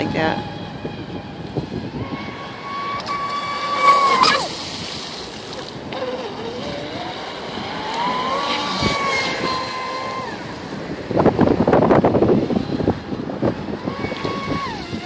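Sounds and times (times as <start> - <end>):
electric motor high whine: 0.0 - 15.0.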